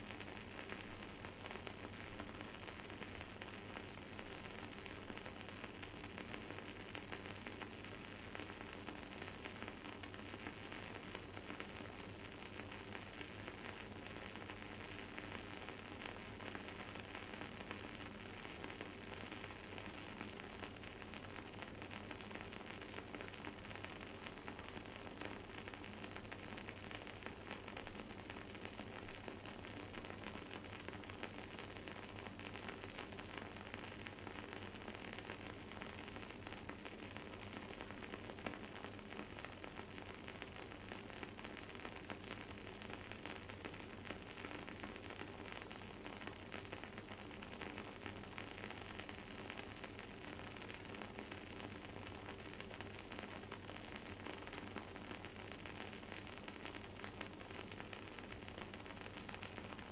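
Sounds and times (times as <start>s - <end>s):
candle crackling and sizzling: 0.0s - 59.9s.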